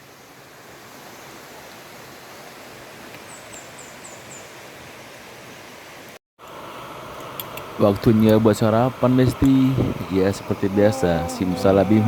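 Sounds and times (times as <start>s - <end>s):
river water rushing: 0.0s - 7.9s, 8.5s - 12.0s.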